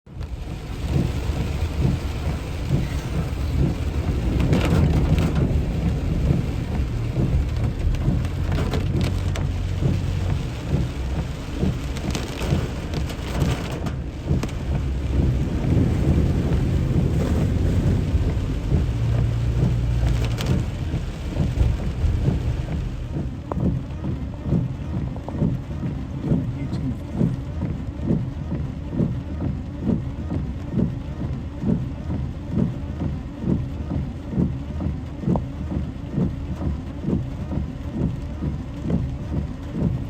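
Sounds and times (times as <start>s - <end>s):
deep rumble: 0.1s - 40.0s
heavy rain pouring: 0.1s - 40.0s
raindrops pattering close by: 0.1s - 40.0s.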